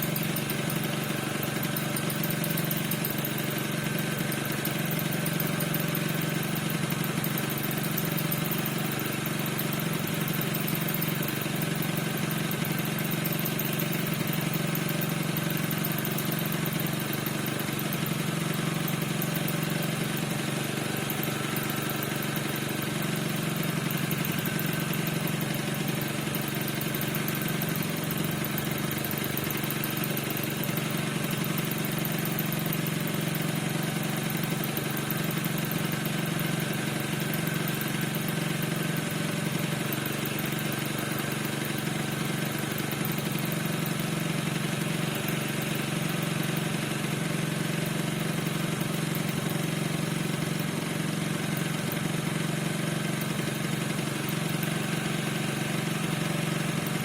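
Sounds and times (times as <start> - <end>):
scooter engine idling: 0.0 - 57.0.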